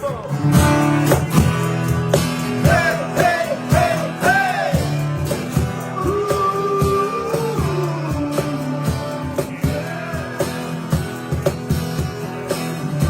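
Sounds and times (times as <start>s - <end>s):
drums beating: 0.0s - 13.0s
guitar chords: 0.0s - 13.0s.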